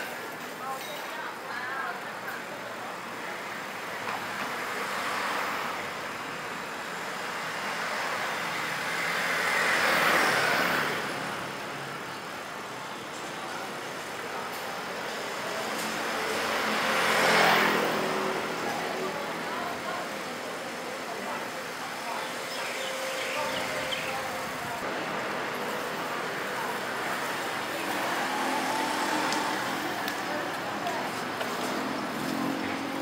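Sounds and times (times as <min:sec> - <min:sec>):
background traffic noise: 0:00.0 - 0:33.0
vehicles passing close: 0:01.3 - 0:33.0.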